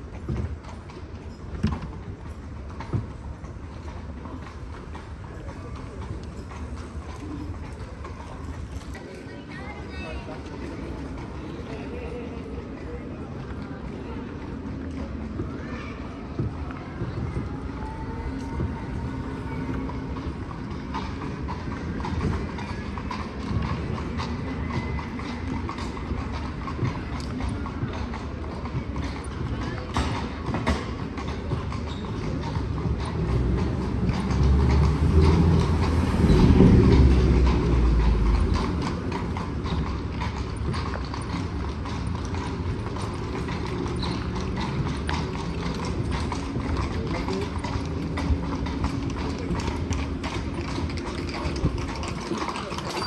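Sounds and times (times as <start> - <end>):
carriage wheels rumbling: 0.0 - 53.0
horse hooves clip-clopping on street: 0.0 - 53.0.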